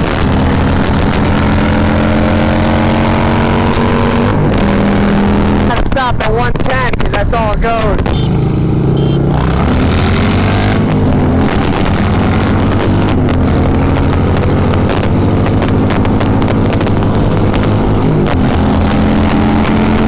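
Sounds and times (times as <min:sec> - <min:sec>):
motorcycle engines accelerating: 0:00.0 - 0:20.0.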